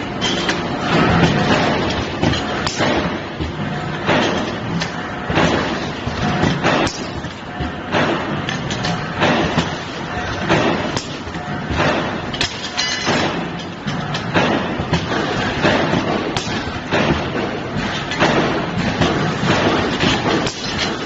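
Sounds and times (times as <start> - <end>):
steady machine noise: 0.0 - 21.0
welding heads snapping and knocking: 0.2 - 21.0.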